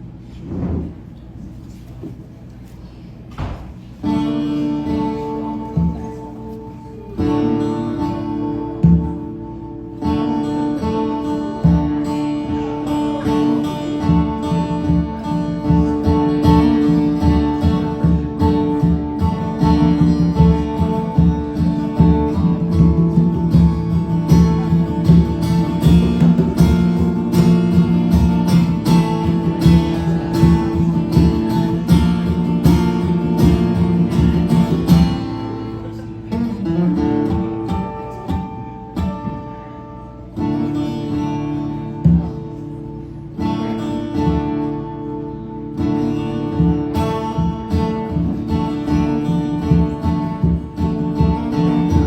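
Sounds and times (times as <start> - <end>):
strummed acoustic guitar music: 3.7 - 52.0.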